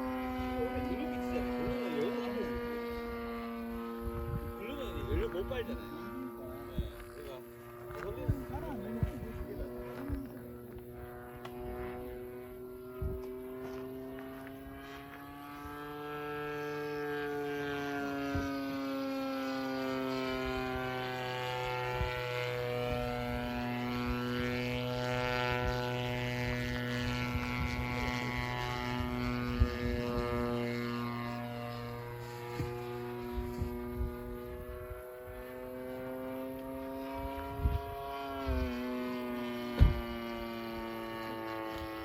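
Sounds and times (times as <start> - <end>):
model aircraft engine running: 0.0 - 42.0.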